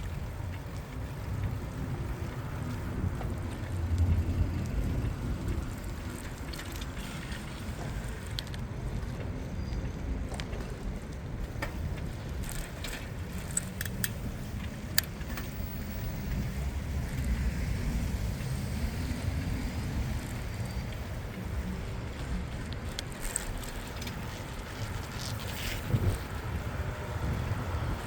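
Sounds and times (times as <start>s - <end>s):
wind and tyres rumbling: 0.0s - 28.0s.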